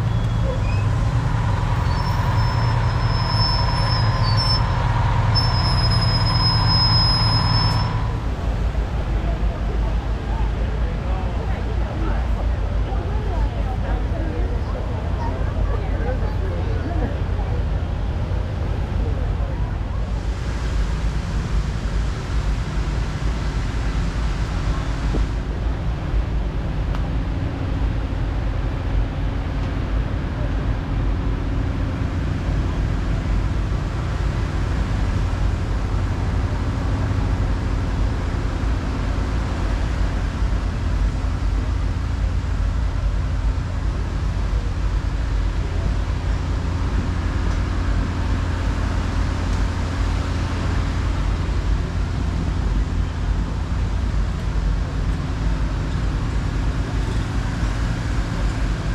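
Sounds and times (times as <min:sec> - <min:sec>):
fire engine pumps rumbling: 0:00.0 - 0:58.9.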